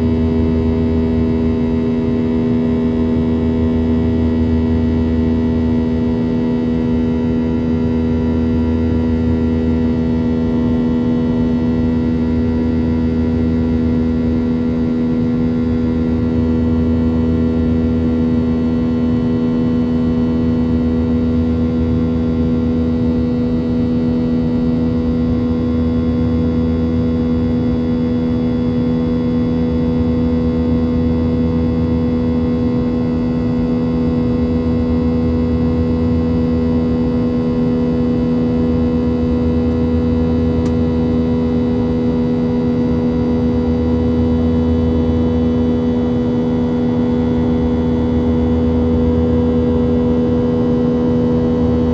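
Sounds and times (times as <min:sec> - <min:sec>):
jet engine drone in cabin: 0:00.0 - 0:51.9.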